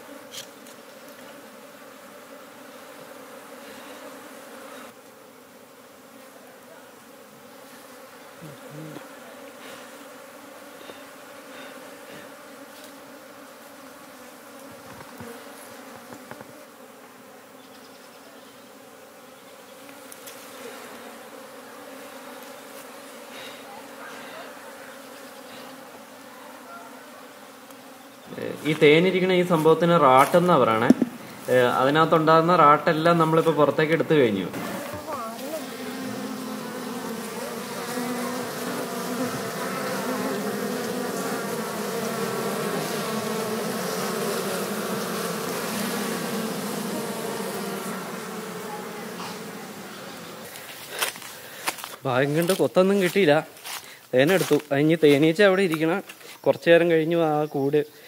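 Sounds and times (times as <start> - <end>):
bees buzzing: 0.0 - 56.3.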